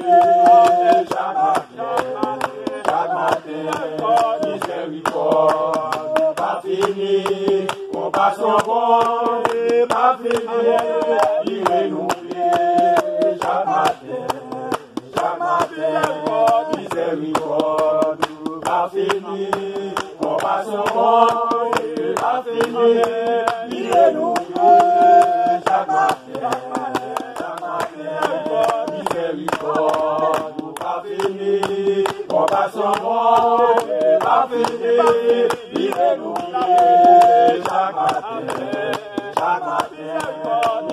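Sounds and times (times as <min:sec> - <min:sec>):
group singing a hymn: 0:00.0 - 0:40.9
rhythmic hand clapping: 0:00.0 - 0:40.9.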